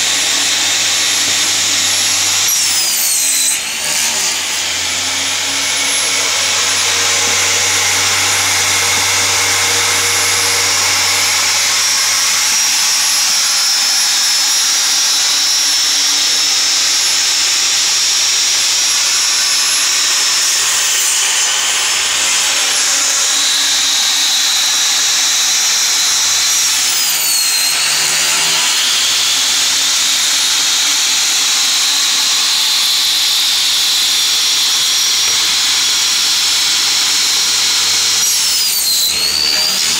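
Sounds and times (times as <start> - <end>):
table saw blade whining: 0.0 - 39.9.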